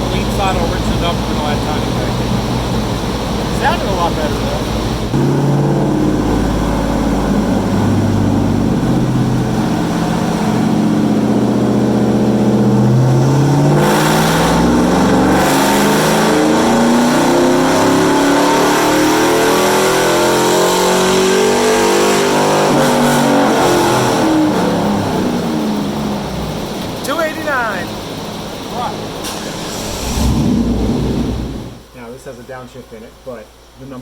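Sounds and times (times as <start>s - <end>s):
pickup engine revving under load: 0.0s - 31.9s.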